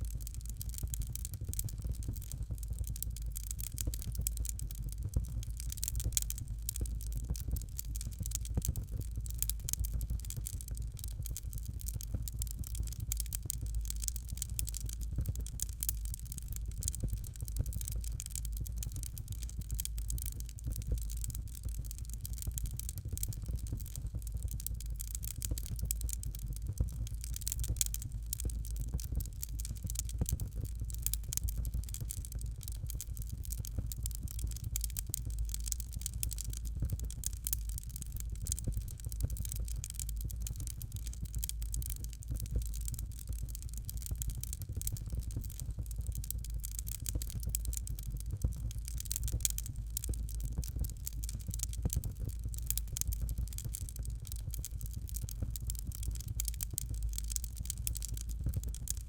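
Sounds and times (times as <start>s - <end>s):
fire crackling: 0.0s - 59.0s
low rumble of fire: 0.0s - 59.0s.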